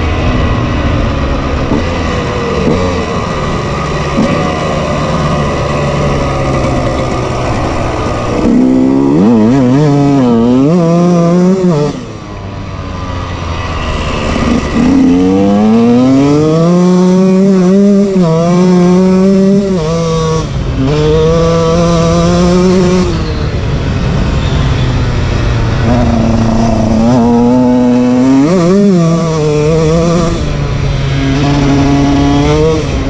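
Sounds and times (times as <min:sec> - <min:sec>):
two-stroke motorcycle revving: 0:00.0 - 0:33.0.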